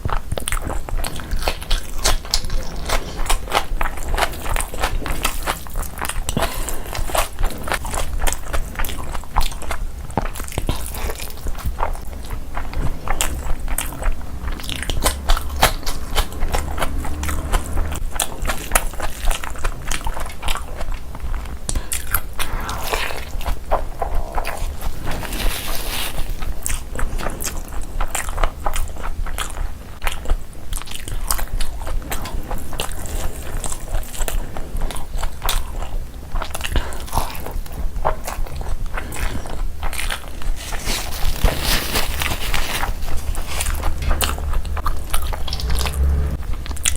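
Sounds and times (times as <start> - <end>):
wet mouth clicks and crunches: 0.0 - 45.6
person chewing and biting food: 0.0 - 46.9.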